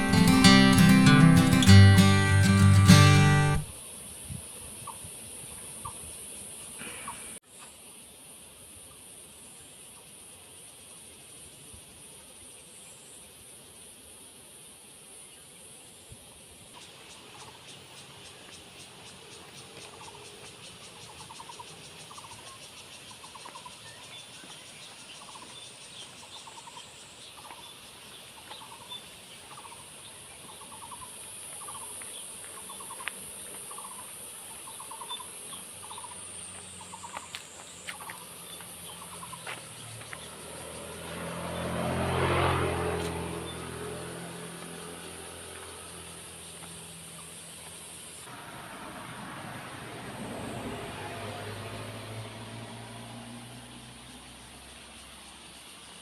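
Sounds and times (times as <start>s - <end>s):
insects droning high-pitched: 0.0s - 56.0s.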